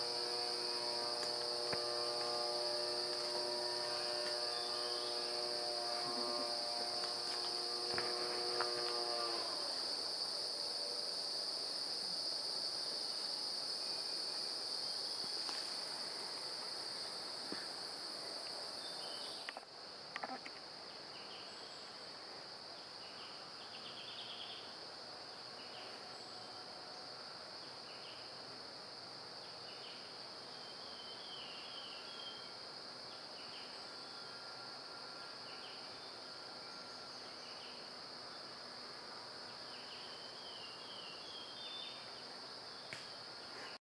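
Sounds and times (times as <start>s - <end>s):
insects droning: 0.0s - 43.8s.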